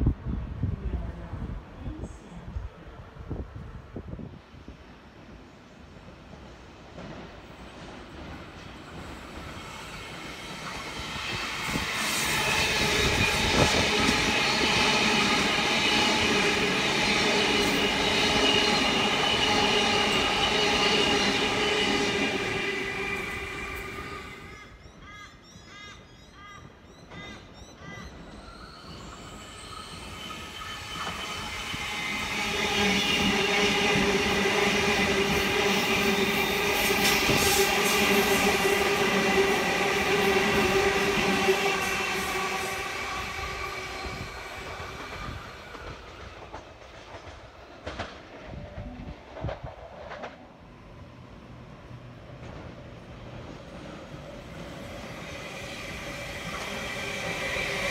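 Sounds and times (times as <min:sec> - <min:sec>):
electric train passing with whine: 0:03.3 - 0:25.0, 0:26.8 - 0:57.9.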